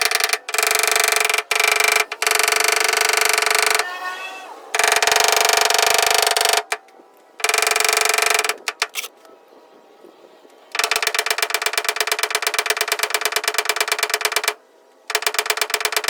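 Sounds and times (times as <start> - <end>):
sharp clicks: 0.0 - 3.9, 4.8 - 9.4, 10.4 - 16.0.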